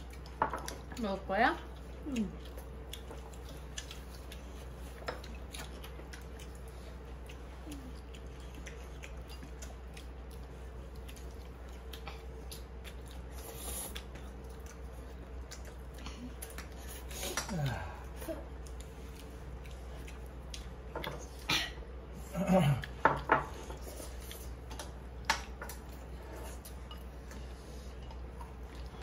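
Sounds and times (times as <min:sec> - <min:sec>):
person chewing: 0:00.0 - 0:01.0, 0:01.7 - 0:21.6, 0:22.2 - 0:29.0
faint steady hum: 0:00.0 - 0:29.0.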